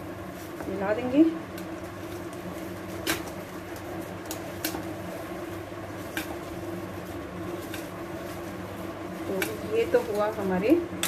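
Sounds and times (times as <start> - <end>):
hands kneading food in bowl: 0.0 - 11.0
steady background hum: 0.0 - 11.0.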